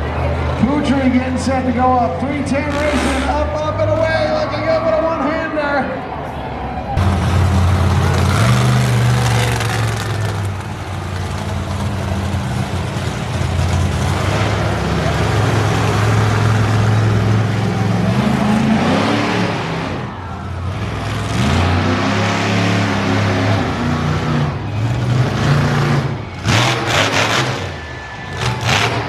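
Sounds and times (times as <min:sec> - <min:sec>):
vehicle engine running and revving: 0:02.2 - 0:03.9, 0:07.0 - 0:29.0.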